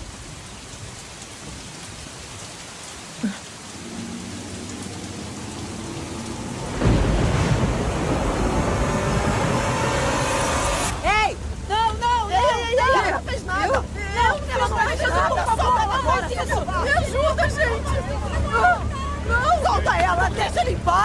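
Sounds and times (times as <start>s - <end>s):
heavy rain pouring: 0.0s - 21.0s
deep rumble: 3.7s - 21.0s.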